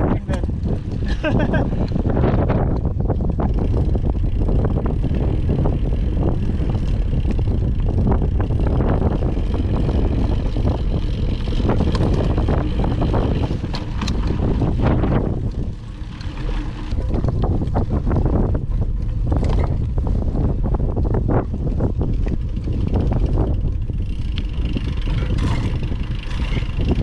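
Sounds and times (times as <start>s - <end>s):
bike clattering and rattling: 0.0s - 27.0s
wind on microphone: 0.0s - 27.0s.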